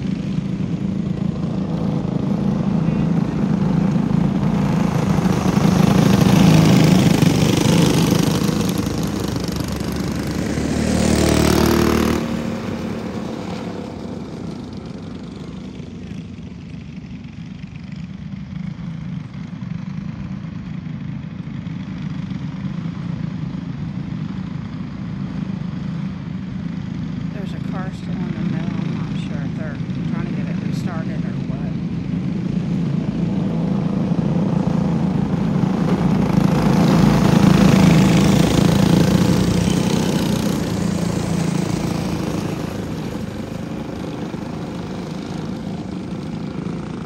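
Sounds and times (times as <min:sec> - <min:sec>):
go-kart engines racing: 0:00.0 - 0:47.0.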